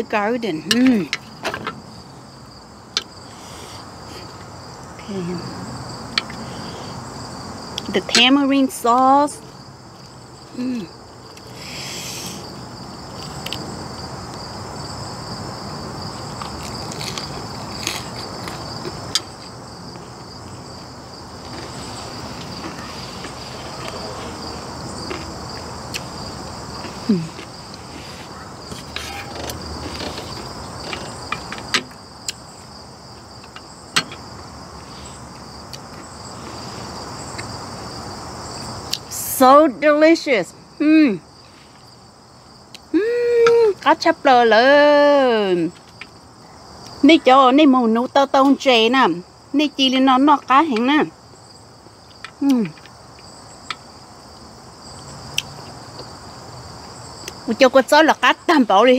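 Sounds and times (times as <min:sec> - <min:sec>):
insects chirping: 0:00.0 - 0:58.9.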